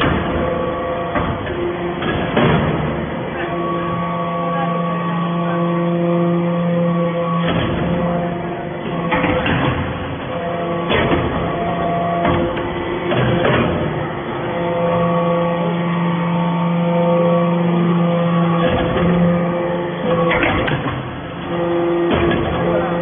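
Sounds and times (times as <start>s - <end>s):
hydraulic machine hum: 0.0s - 23.0s.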